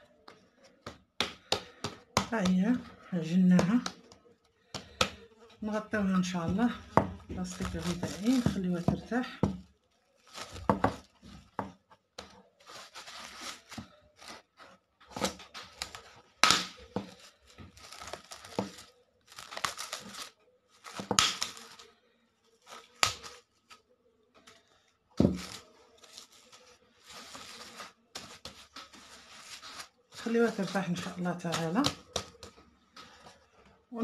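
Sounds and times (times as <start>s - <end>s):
cling film crinkling: 4.2s - 11.6s, 12.3s - 33.8s.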